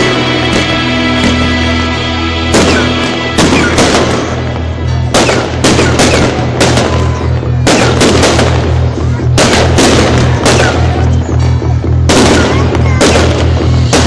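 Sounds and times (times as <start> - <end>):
fireworks bursting: 0.0 - 14.0
loud music with bass: 0.0 - 14.0.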